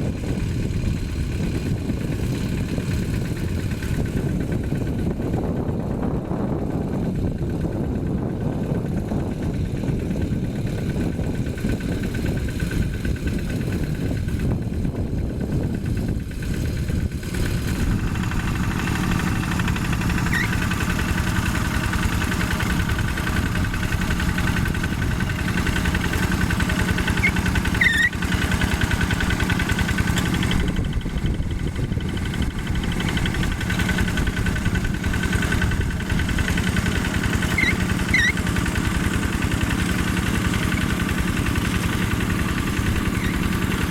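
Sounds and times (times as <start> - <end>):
hand tractor diesel engine running: 0.0 - 43.9.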